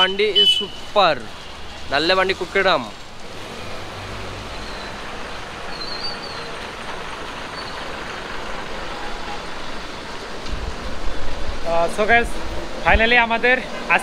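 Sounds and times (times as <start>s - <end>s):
tyres hissing on wet road: 0.0s - 14.0s
bus engine: 0.8s - 14.0s.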